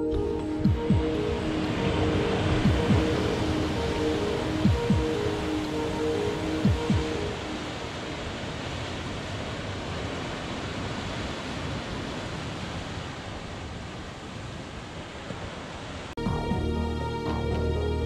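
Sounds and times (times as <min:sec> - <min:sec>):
sea surf rushing: 0:00.0 - 0:16.2.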